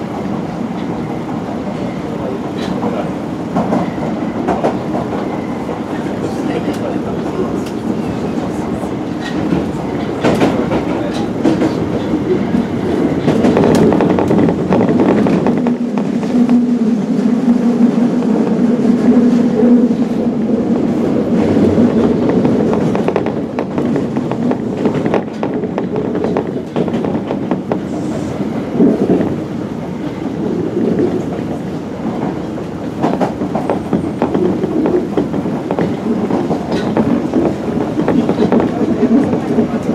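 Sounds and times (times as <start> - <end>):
track clacks: 0.0 - 39.9
train wheels rumbling on rail: 0.0 - 39.9.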